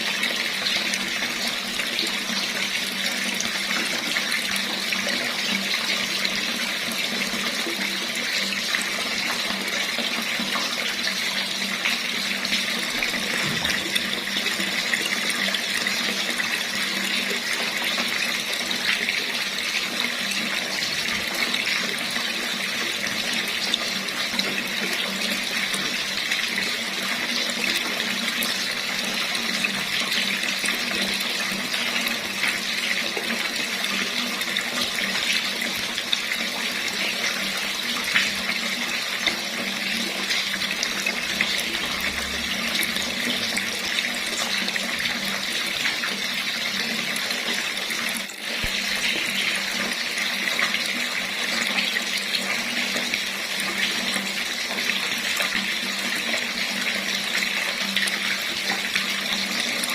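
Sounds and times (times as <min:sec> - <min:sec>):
water running from a tap: 0:00.0 - 0:59.9.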